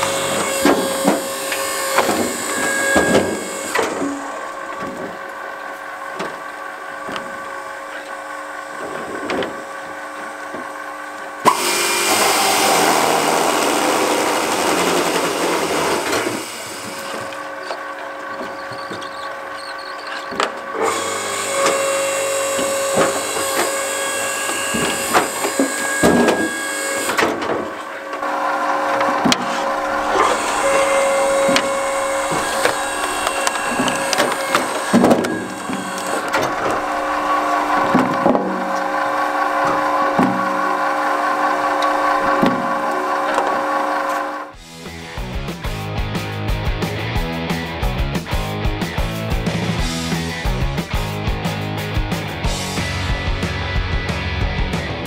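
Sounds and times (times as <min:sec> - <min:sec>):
saw cutting through log: 0:00.0 - 0:44.6
electric drive humming: 0:00.0 - 0:44.8.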